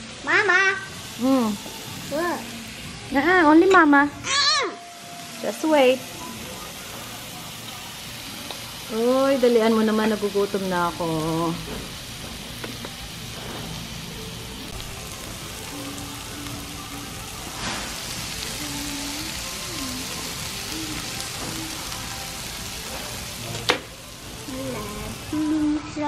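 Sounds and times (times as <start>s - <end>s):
meat sizzling on a grill plate: 0.0s - 26.0s.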